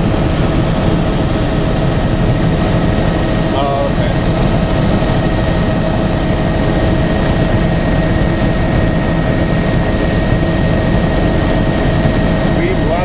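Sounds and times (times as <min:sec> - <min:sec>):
helicopter engine and rotor drone: 0:00.0 - 0:13.0
high whine: 0:00.0 - 0:13.0.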